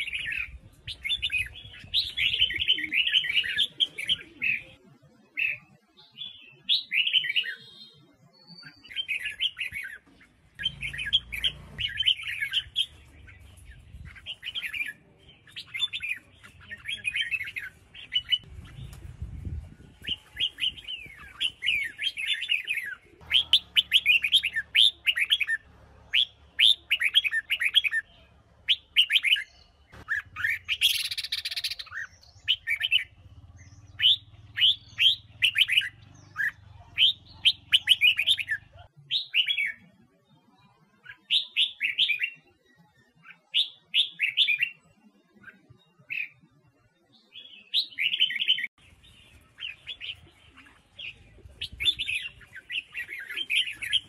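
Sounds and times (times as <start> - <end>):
bird singing chirping notes: 0.0 - 39.9, 47.2 - 54.0.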